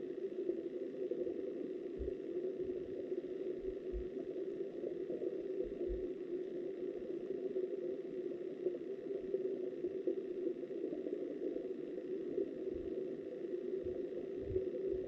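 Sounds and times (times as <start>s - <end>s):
muffled underwater river rush: 0.5s - 15.0s.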